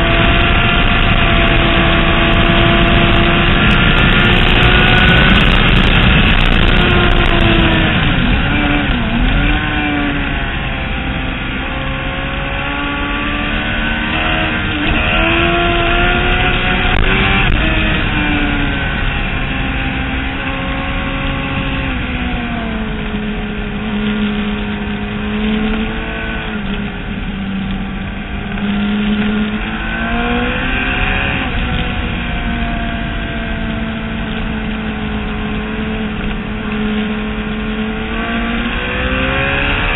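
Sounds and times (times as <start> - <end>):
racing motorcycle engine: 0.0 - 39.9
wind rushing: 0.0 - 39.9.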